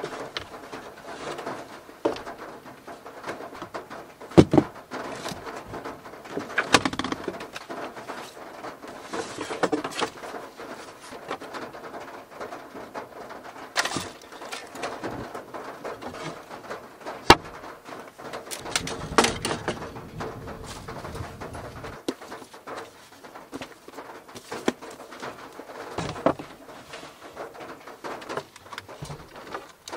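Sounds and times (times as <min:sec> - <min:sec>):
objects rustling and clattering: 0:00.0 - 0:29.9.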